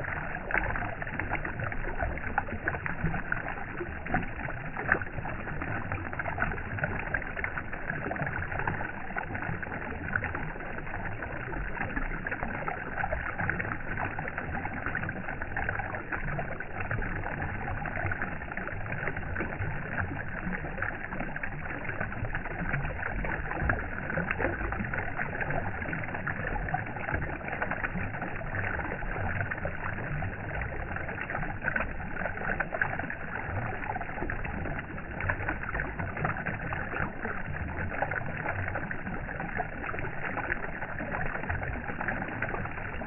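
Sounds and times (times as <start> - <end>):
small splashes and ticks: 0.0 - 43.0.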